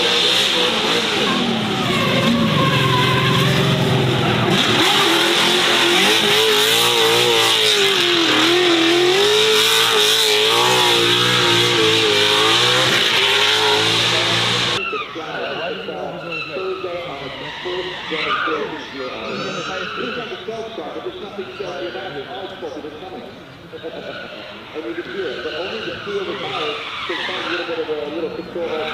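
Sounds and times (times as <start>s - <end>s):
racing car engines revving: 0.0s - 28.9s.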